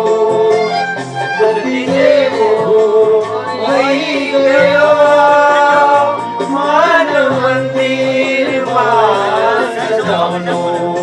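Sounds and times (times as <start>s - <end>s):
man singing into microphone: 0.0s - 0.8s, 1.4s - 11.0s.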